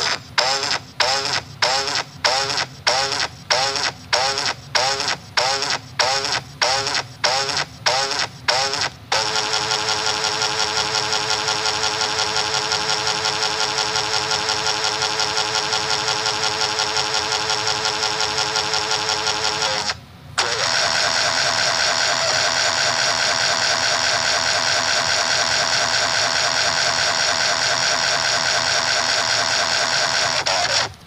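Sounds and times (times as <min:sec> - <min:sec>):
harsh distorted buzzing tone: 0:00.0 - 0:31.0.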